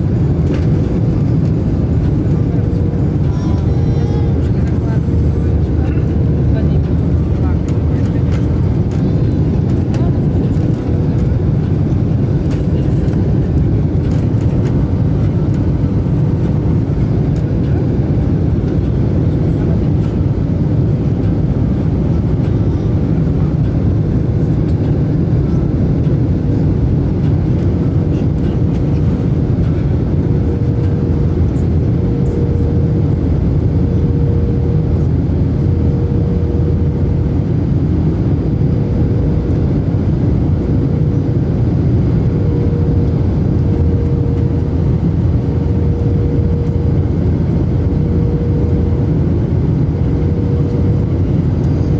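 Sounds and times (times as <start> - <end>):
airliner cabin roar: 0.0 - 51.9.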